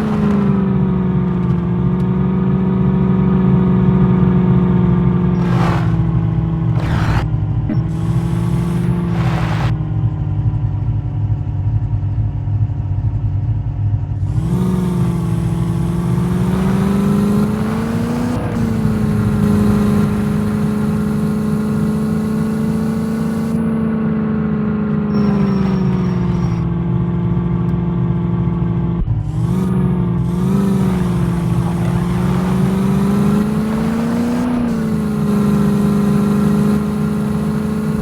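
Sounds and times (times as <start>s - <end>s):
jeep engine running: 0.0s - 38.0s.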